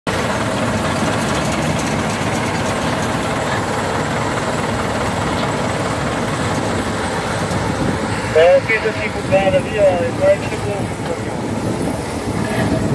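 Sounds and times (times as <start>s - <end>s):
heavy diesel engine drone: 0.1s - 12.9s
machinery rush: 0.1s - 12.9s.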